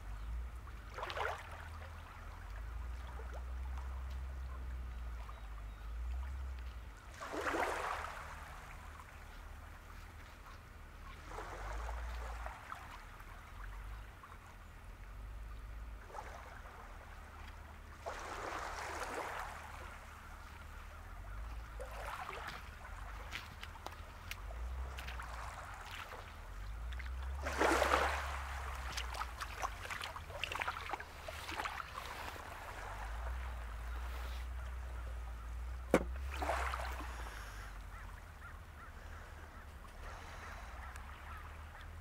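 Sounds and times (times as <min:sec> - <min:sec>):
distant seabirds calling: 0:01.8 - 0:42.0.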